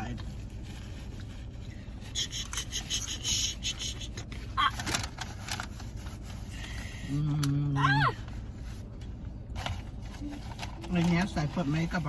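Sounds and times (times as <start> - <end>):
car interior rumble: 0.0 - 12.0
food containers scraping and rustling: 0.0 - 12.0.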